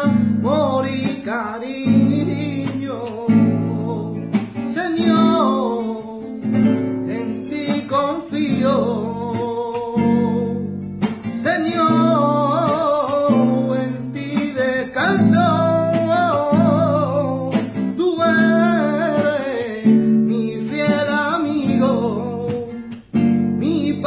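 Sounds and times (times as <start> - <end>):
man singing ornamented vocal: 0.0 - 10.7, 11.3 - 22.9, 23.6 - 24.0
strummed acoustic guitar: 0.0 - 24.0.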